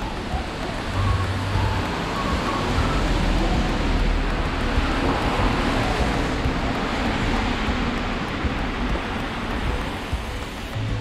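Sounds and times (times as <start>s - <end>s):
traffic rushing: 0.0s - 11.0s.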